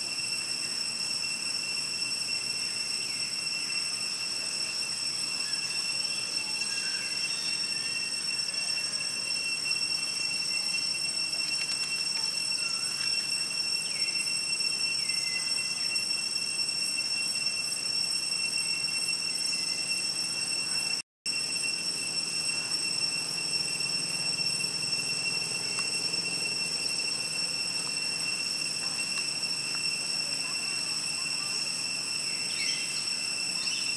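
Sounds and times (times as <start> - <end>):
insects buzzing: 0.0 - 33.9.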